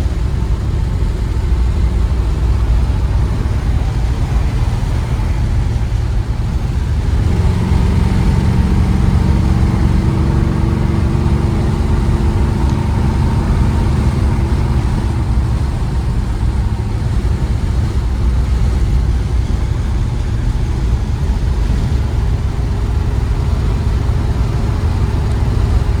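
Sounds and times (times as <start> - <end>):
car road rumble inside cabin: 0.0 - 26.0
steady engine note: 0.0 - 26.0.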